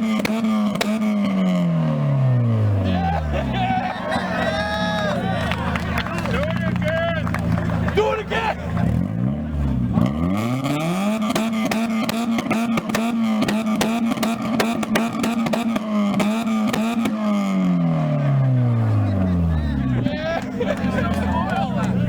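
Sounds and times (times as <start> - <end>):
car engine revving: 0.0 - 22.0
exhaust crackles: 0.0 - 22.0.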